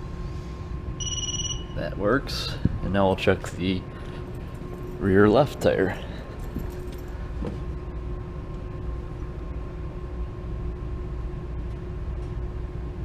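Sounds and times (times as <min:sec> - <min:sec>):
faint steady whine: 0:00.0 - 0:13.0
low machine hum with hiss: 0:00.0 - 0:13.0.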